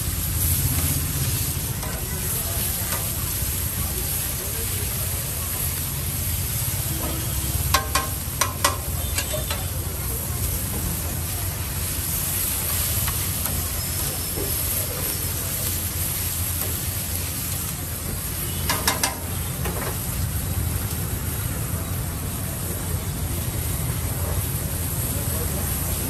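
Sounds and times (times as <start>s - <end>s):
vegetables sizzling on griddle: 0.0s - 26.0s.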